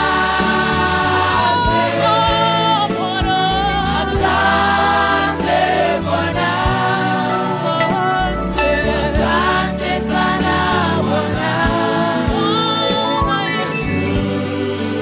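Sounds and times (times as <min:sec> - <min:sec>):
bass line: 0:00.0 - 0:14.9
choir singing gospel: 0:00.0 - 0:15.0.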